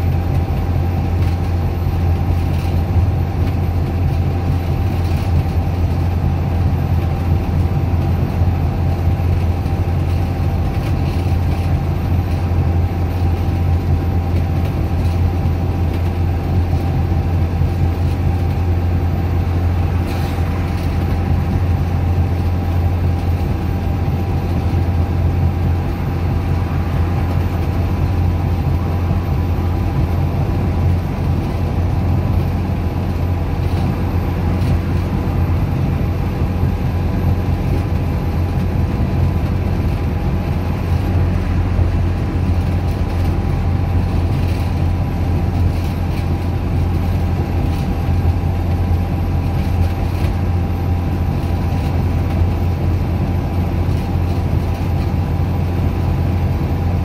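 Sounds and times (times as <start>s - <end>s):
bus engine drone: 0.0s - 57.0s
faint steady whines: 0.0s - 57.0s.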